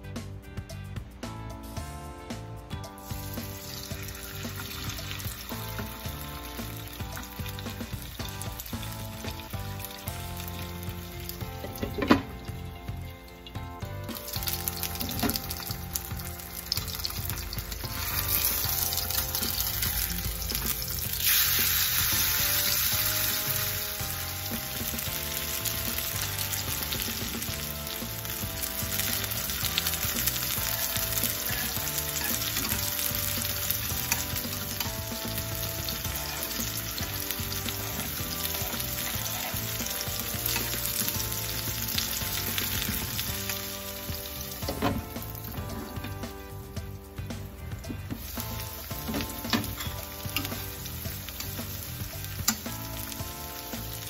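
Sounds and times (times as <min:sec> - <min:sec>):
meat sizzling in a frying pan: 0:03.0 - 0:54.0.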